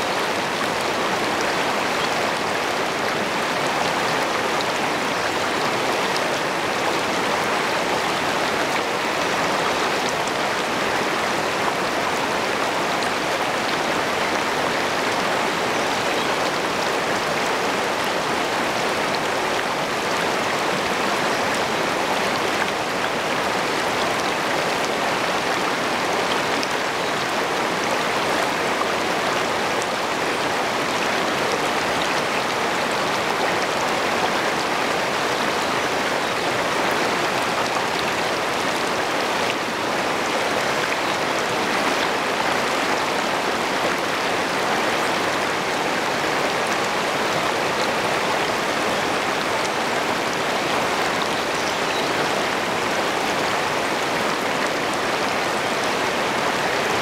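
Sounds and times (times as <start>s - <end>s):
water rushing over stones: 0.0s - 57.0s.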